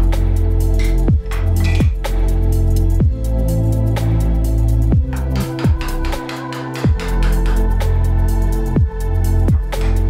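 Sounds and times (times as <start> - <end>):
music with sustained chords: 0.0 - 10.0.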